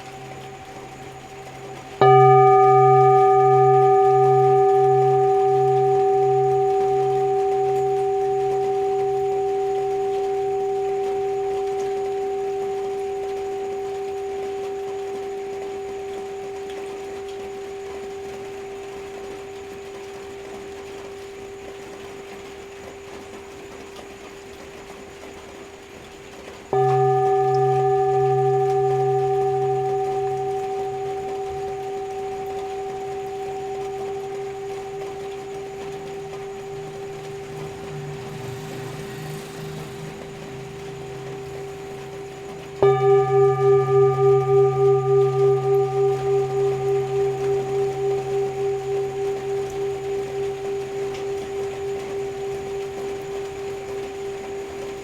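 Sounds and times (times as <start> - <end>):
low wavering hum: 0.0 - 23.1, 26.7 - 55.0
singing bowl ringing: 0.0 - 24.6, 26.6 - 55.0
rain hiss: 0.0 - 55.0.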